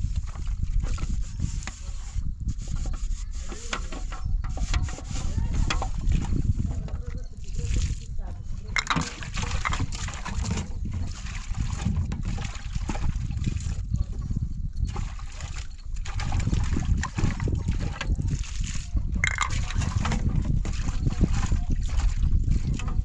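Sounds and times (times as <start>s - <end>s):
water sloshing and splashing: 0.0s - 23.0s.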